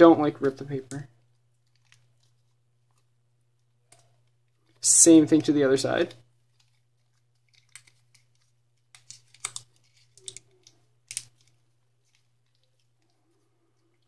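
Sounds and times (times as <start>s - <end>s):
paper folding crinkles and clicks: 0.4s - 4.8s, 6.3s - 14.0s.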